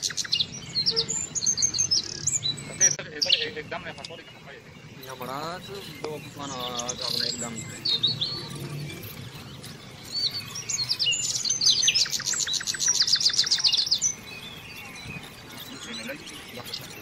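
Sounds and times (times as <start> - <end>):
fast bird trill: 0.0 - 17.0
small songbirds chirping: 0.0 - 17.0.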